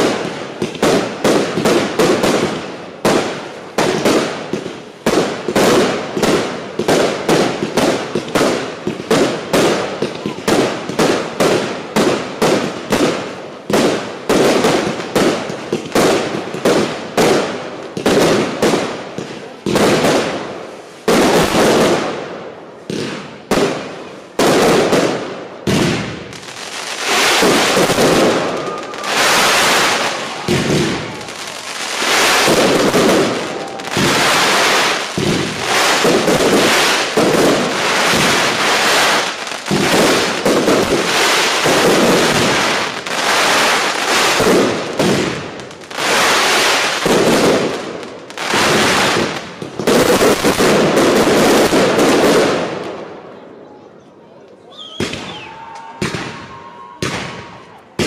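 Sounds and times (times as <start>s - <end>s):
fireworks banging: 0.0s - 53.1s
fireworks crackling: 0.0s - 53.4s.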